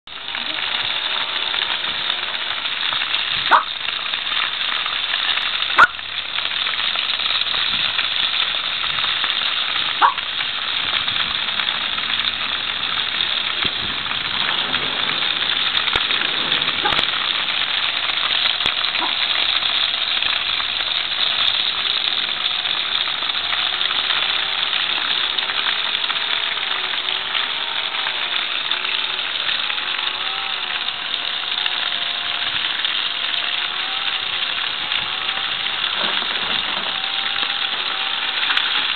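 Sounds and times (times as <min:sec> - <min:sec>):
food sizzling on grill: 0:00.1 - 0:38.9.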